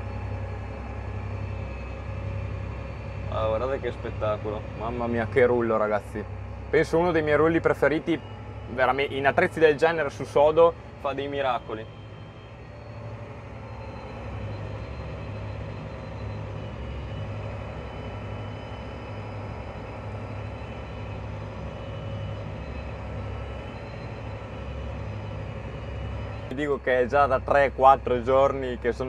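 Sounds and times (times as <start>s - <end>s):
faint high whine: 0.0s - 29.0s
tractor diesel engine rumble: 0.0s - 29.0s.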